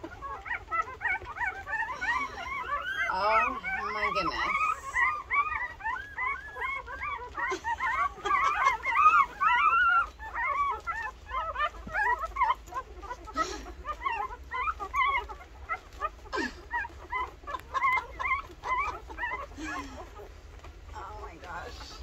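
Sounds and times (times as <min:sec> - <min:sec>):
puppies squeaking and whimpering: 0:00.0 - 0:22.0.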